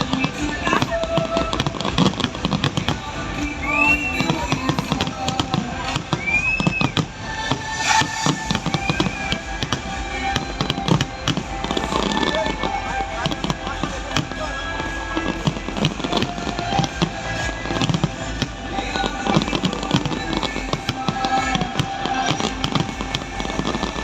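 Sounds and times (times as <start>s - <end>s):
fireworks bangs and crackling: 0.0s - 24.0s
music playing: 0.0s - 24.0s.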